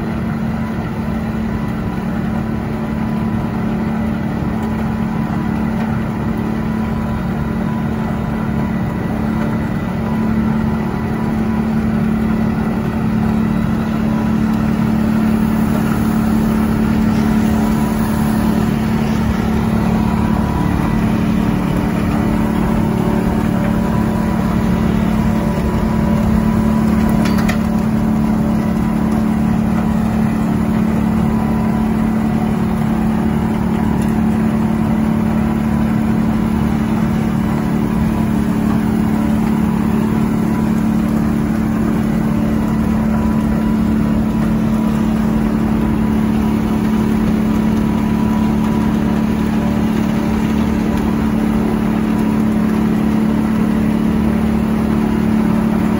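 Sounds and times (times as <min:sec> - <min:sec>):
diesel engines droning: 0:00.0 - 0:55.9
snow blower throwing snow: 0:04.2 - 0:55.9.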